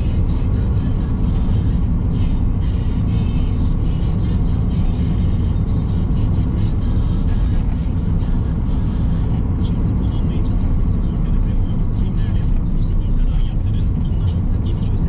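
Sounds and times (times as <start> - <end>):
car cabin road rumble: 0.0 - 15.0
car radio music: 0.0 - 15.0.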